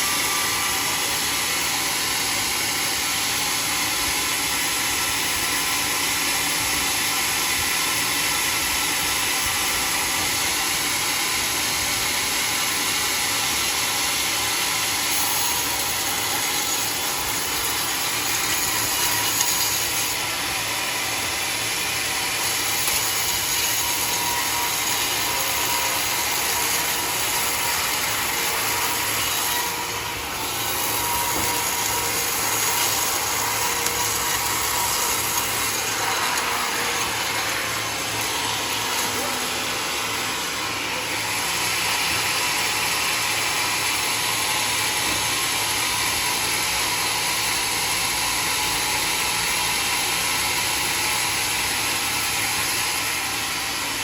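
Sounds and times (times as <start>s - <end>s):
sawmill blade cutting wood: 0.0s - 54.0s.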